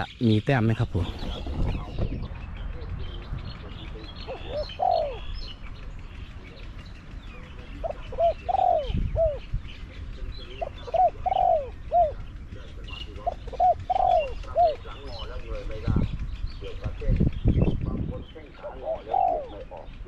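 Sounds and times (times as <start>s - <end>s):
small birds chirping: 0.0s - 20.0s
dove cooing: 1.1s - 20.0s.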